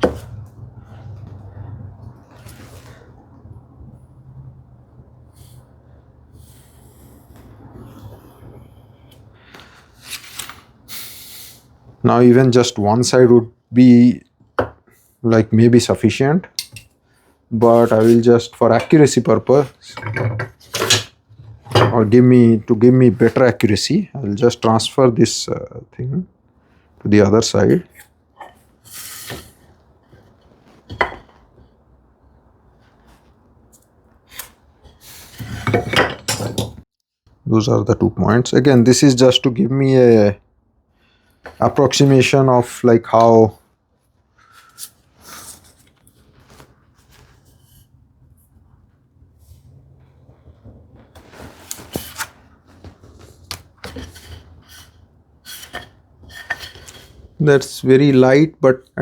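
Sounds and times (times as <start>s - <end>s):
faint shop room tone: 0.0s - 59.0s.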